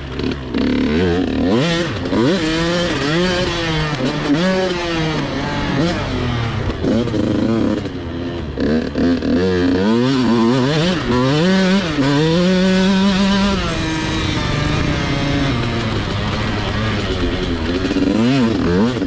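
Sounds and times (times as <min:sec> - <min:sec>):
two-stroke engine revving: 0:00.0 - 0:19.0.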